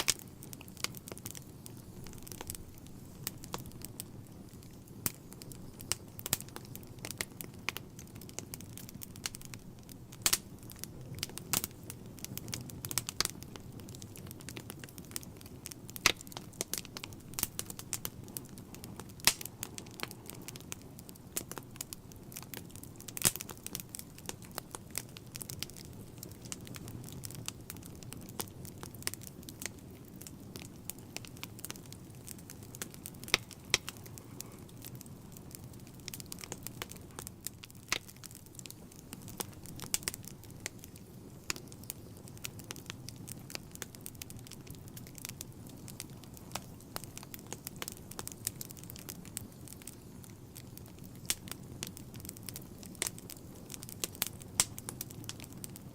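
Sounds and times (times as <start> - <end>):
fire crackling and popping: 0.0 - 55.9
rumble of flame: 0.0 - 55.9.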